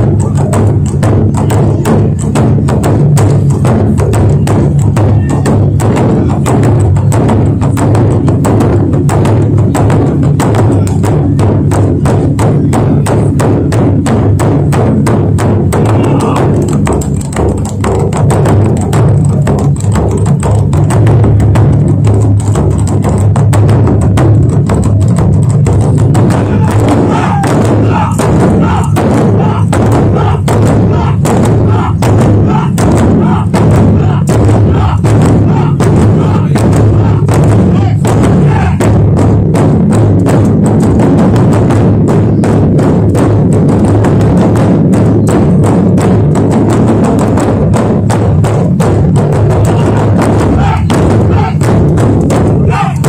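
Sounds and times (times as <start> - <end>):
barrel drums beaten fast: 0.0 - 53.0.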